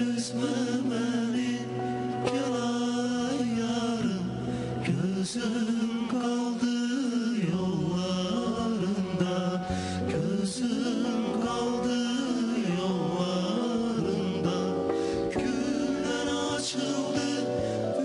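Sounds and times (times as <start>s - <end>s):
men singing a pop song: 0.0s - 18.0s
musical accompaniment: 0.0s - 18.0s.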